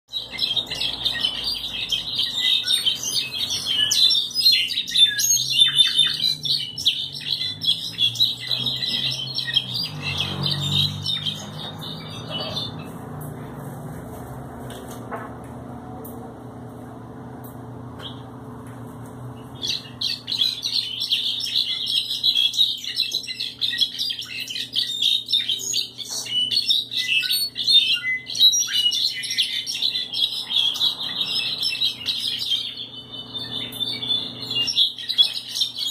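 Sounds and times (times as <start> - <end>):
finch twittering song: 0.1 - 13.4, 19.4 - 35.9.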